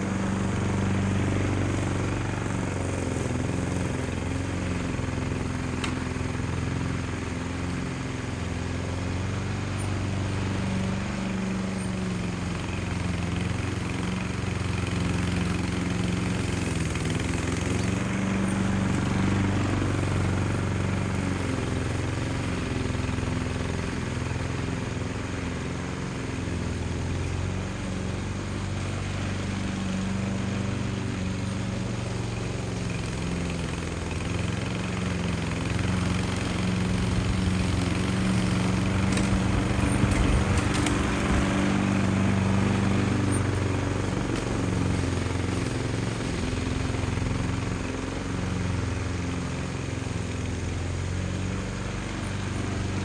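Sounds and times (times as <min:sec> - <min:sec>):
grass cutter engine running: 0:00.0 - 0:53.0.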